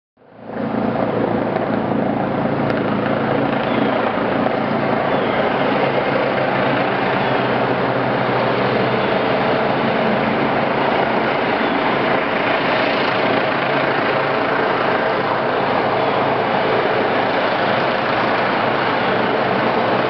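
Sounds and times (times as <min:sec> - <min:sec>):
helicopter rotor and turbine drone: 0:00.2 - 0:20.0.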